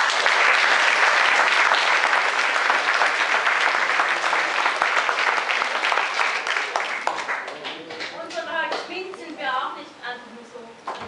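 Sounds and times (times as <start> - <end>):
applause: 0.0 - 8.9.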